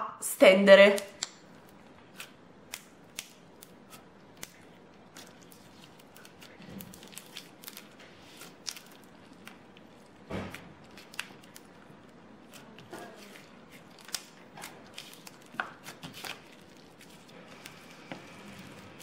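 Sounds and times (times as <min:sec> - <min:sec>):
slime sticky clicks and crackles: 0:01.2 - 0:12.9, 0:13.7 - 0:17.7
slime squish: 0:01.2 - 0:19.0.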